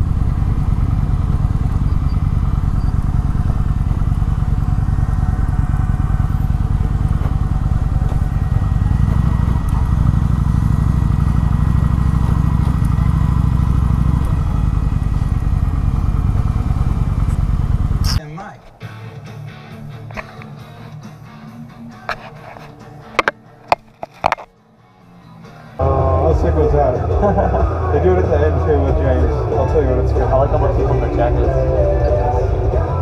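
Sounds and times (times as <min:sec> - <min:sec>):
motorcycle engine running: 0:00.0 - 0:24.5, 0:25.8 - 0:33.0.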